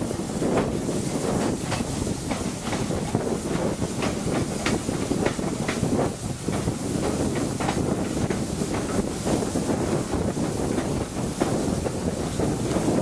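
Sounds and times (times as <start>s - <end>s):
steam locomotive exhaust beats: 0.0s - 13.0s
train running noise and air rush: 0.0s - 13.0s.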